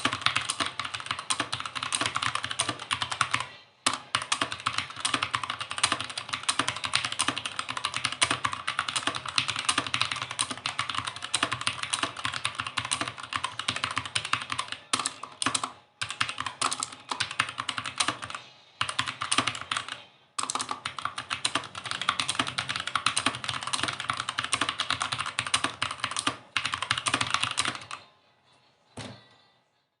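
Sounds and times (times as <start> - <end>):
fast typing on mechanical keyboard: 0.0 - 28.0.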